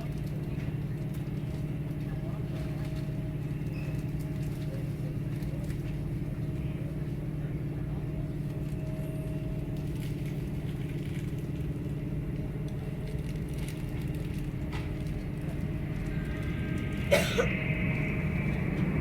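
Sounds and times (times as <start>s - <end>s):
low mechanical drone: 0.0s - 19.0s.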